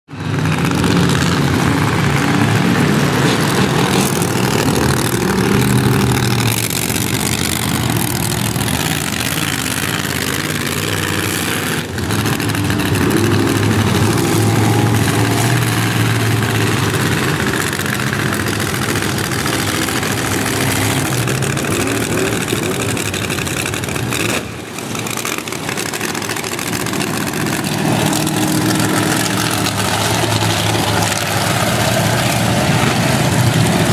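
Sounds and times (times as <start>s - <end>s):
monster truck engines revving: 0.1s - 33.9s.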